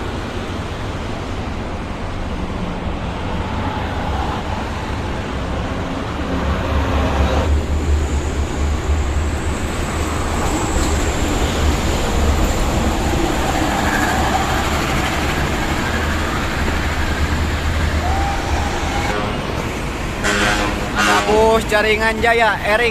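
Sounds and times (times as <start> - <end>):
large vehicle passing: 0.0 - 21.6
heavy highway traffic rumble: 0.0 - 22.9.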